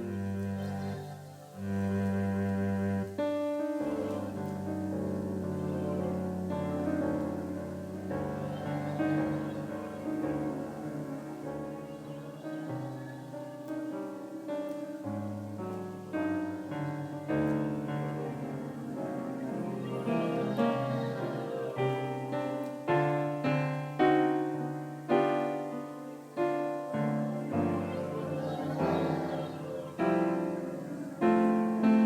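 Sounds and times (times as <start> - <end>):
piano chords over bass notes: 0.0 - 32.0.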